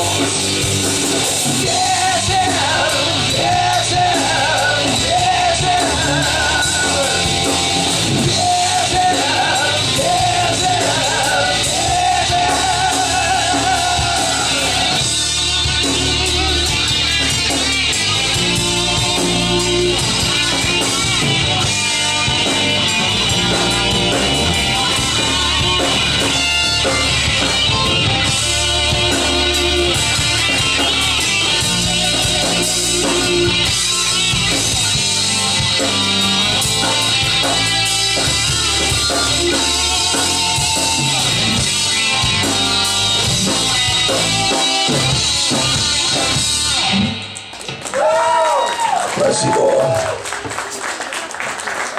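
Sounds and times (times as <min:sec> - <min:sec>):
rock band playing live: 0:00.0 - 0:51.9.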